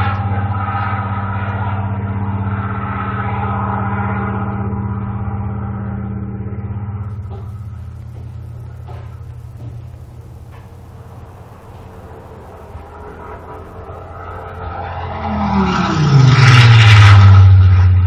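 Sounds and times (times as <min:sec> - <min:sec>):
aircraft engine drone through loudspeaker: 0:00.0 - 0:18.0.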